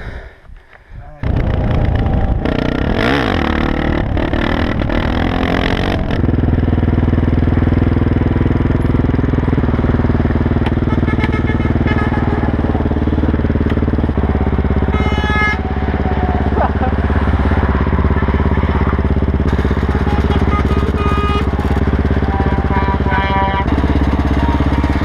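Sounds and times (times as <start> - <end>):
off-road motorcycle engine running: 1.2 - 25.0.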